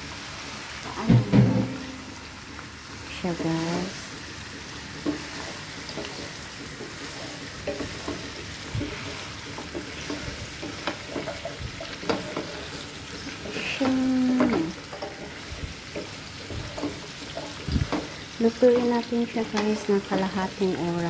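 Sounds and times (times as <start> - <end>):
chicken feet sizzling in a pan: 0.0 - 21.0.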